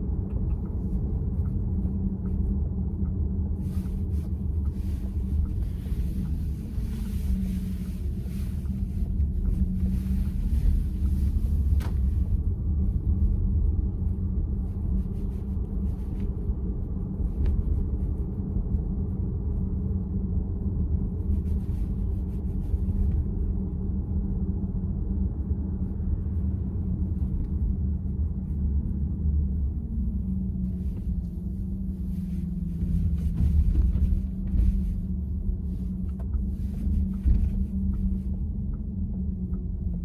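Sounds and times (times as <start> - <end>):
road and tyre rumble in car: 0.0 - 40.0.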